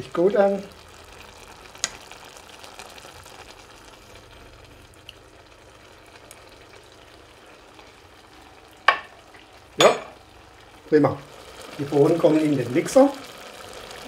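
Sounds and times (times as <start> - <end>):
beans simmering in saucepan: 0.0 - 14.0.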